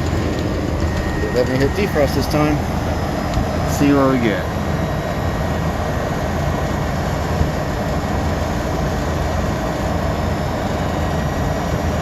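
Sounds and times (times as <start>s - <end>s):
condensing unit humming: 0.0s - 12.0s.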